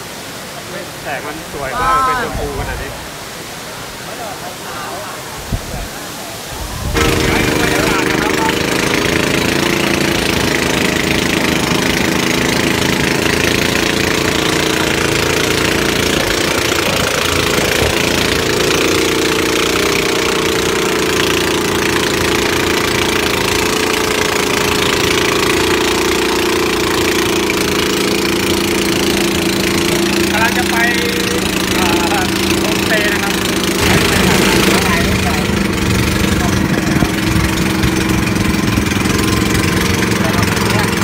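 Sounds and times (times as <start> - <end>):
boat engine droning: 0.0 - 41.0
water and wind noise: 0.0 - 41.0.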